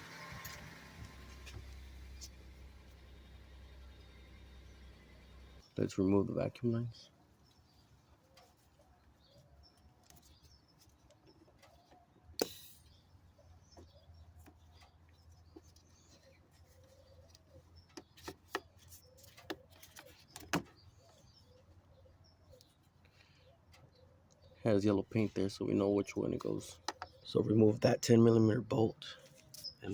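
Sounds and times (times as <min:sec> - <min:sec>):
birds calling softly: 0:00.0 - 0:29.9.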